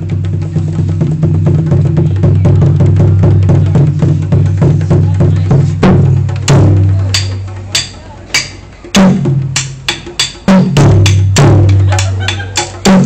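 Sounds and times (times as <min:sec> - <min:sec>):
rhythmic drum strokes: 0:00.0 - 0:13.0.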